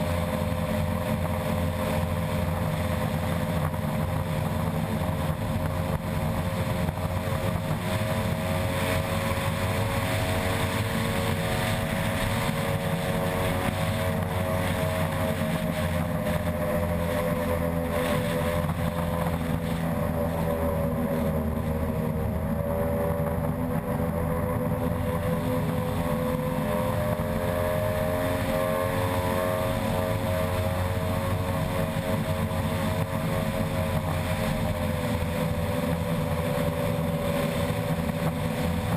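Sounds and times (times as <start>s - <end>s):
boat outboard engine at high revs: 0.0s - 38.9s
constant rushing noise: 0.0s - 38.9s.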